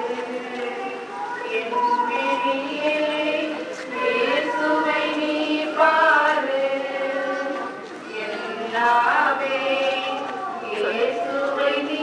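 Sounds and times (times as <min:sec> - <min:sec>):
choir singing a slow chant: 0:00.0 - 0:12.0.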